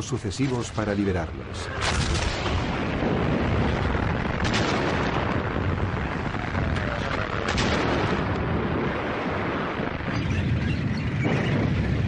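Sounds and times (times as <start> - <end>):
artillery fire and explosions: 0.3 - 12.0
rumbling din of battle: 0.6 - 12.0.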